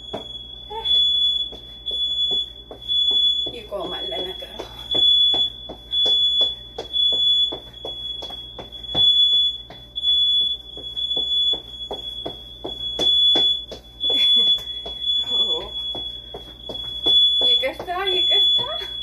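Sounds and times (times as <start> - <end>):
house alarm high-pitched tone: 0.0 - 19.0.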